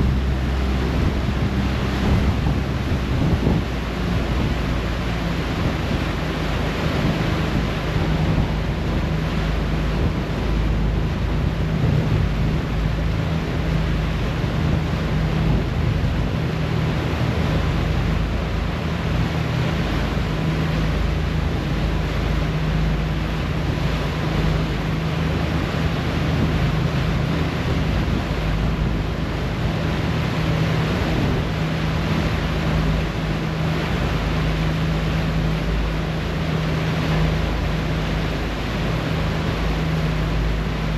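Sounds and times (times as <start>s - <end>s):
low engine drone: 0.0s - 40.9s
propeller wash churning: 0.0s - 40.9s
wind buffeting microphone: 0.0s - 40.9s.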